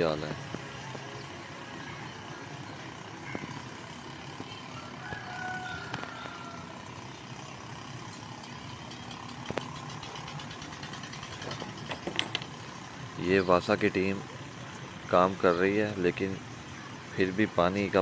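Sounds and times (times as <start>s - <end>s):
motorcycle and truck engines: 0.0s - 18.0s.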